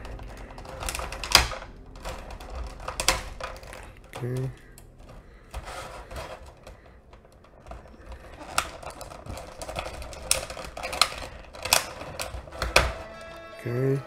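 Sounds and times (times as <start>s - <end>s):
plastic packaging crackling: 0.0s - 14.0s.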